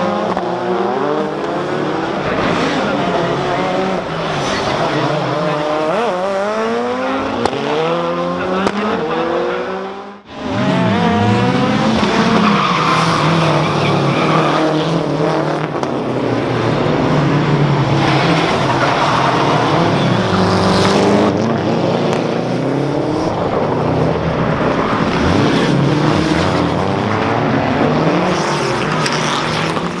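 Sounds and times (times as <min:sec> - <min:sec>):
rally car engine revving hard: 0:00.0 - 0:30.0.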